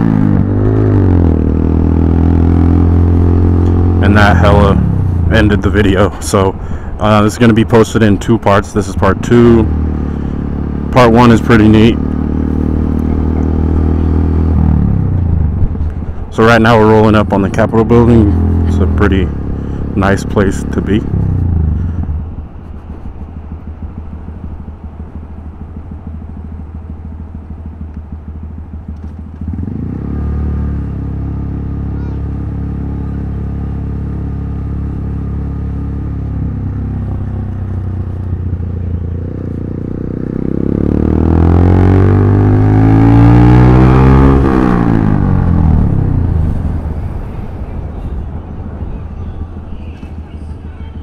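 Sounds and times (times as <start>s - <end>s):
motorcycle engine running: 0.0s - 51.0s
road and wind noise: 0.0s - 51.0s.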